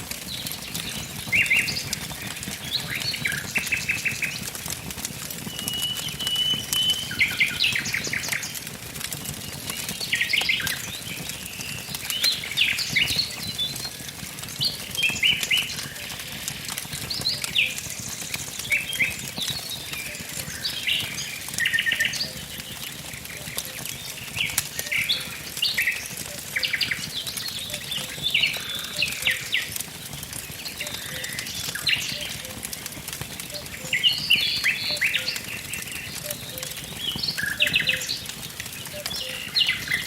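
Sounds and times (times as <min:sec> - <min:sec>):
campfire crackling: 0:00.0 - 0:40.0
small birds chirping: 0:00.0 - 0:40.0.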